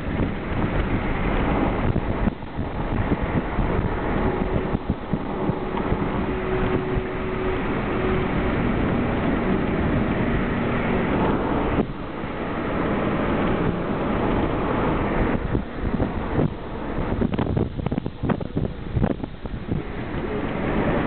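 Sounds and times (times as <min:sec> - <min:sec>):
wind and road noise: 0:00.0 - 0:21.0
wind buffeting microphone: 0:00.0 - 0:21.0.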